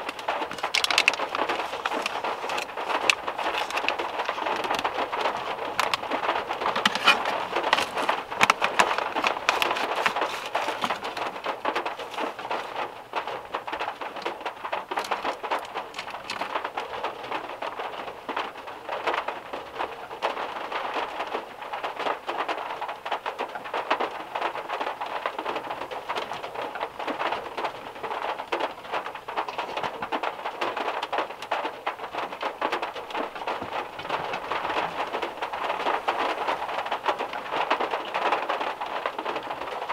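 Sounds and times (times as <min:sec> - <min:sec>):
heavy rain on metal car roof: 0:00.0 - 0:39.9.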